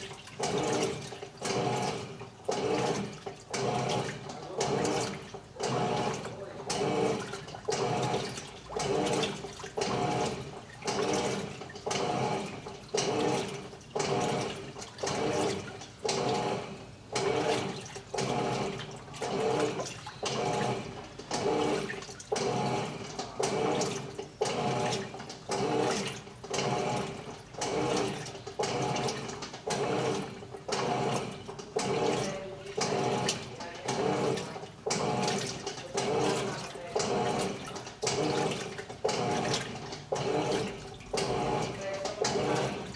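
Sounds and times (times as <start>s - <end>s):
washing machine churning water: 0.0s - 42.9s.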